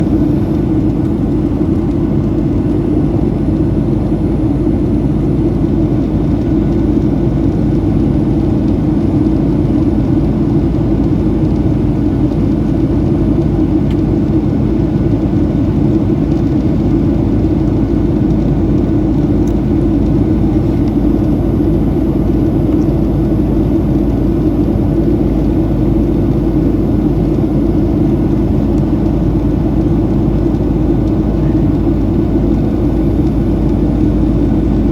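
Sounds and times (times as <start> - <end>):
airplane cabin drone: 0.0 - 34.9.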